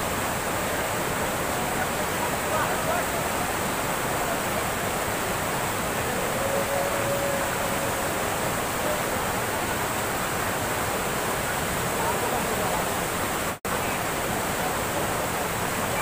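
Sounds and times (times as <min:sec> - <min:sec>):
waterfall rushing over boulders: 0:00.0 - 0:16.0.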